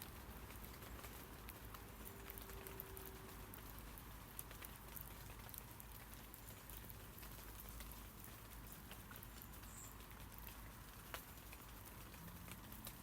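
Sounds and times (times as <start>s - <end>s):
rain pattering on leaves: 0.0s - 13.0s.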